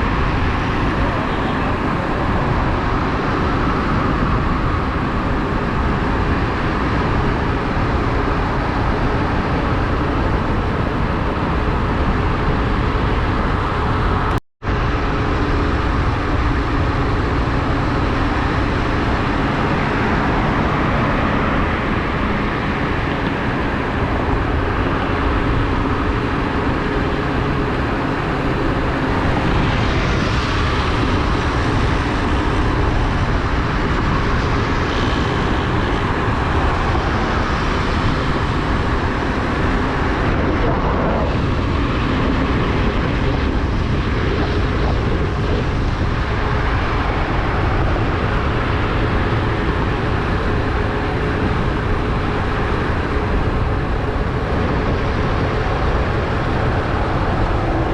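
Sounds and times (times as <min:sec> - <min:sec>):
faint engine hum: 0:00.0 - 0:57.9
wind and road noise: 0:00.0 - 0:57.9.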